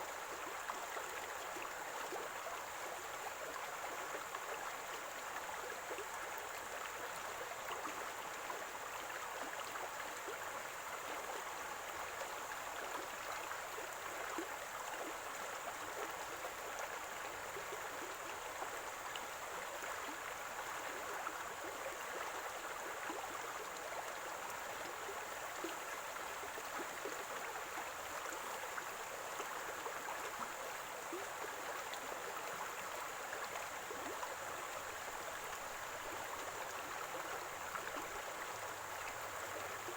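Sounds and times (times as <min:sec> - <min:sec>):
stream gurgling: 0:00.0 - 0:39.9.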